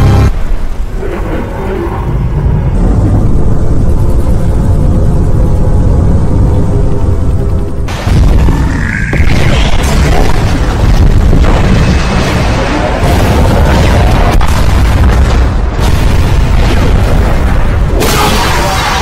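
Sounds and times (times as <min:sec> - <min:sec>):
booms and explosions: 0:00.0 - 0:19.0.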